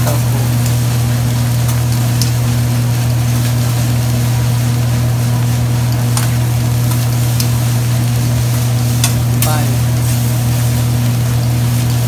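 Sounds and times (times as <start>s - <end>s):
exhaust ventilation hum: 0.0s - 12.0s.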